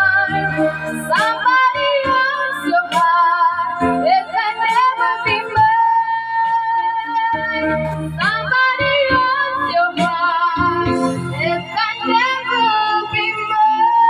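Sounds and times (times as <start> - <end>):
girl singing into microphone: 0.0 - 14.0
karaoke backing track: 0.0 - 14.0.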